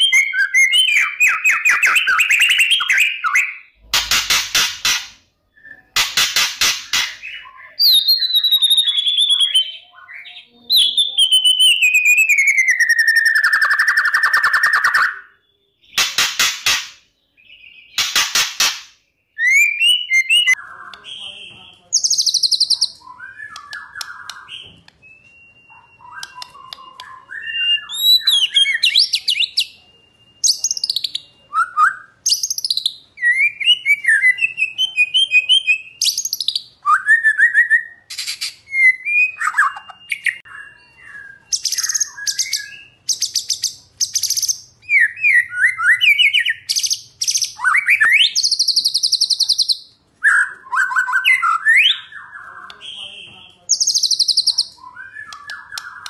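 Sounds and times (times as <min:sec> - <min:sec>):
songbird singing varied song: 0:07.2 - 0:16.0, 0:19.2 - 0:56.0.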